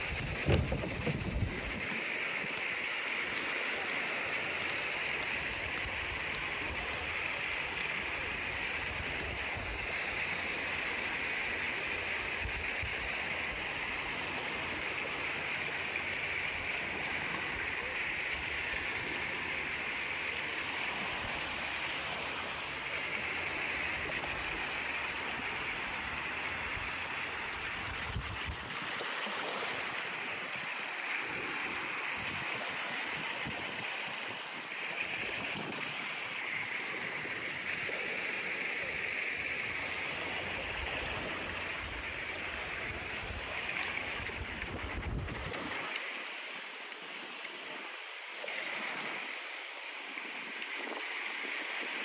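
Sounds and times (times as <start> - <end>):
beach ambience rushing noise: 0.0 - 52.0.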